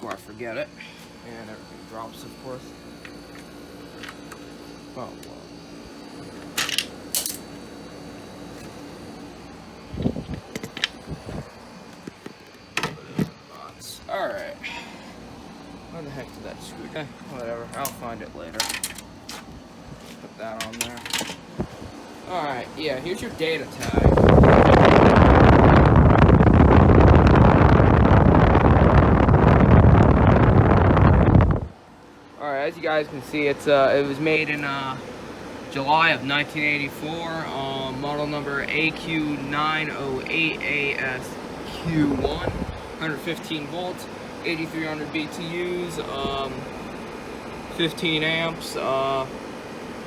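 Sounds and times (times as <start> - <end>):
air conditioner humming: 0.0 - 50.0.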